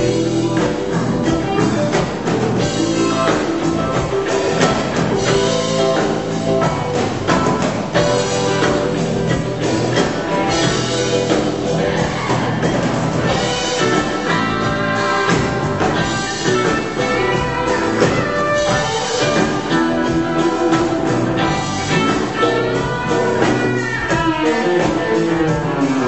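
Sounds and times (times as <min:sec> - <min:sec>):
electric guitar: 0:00.0 - 0:26.0.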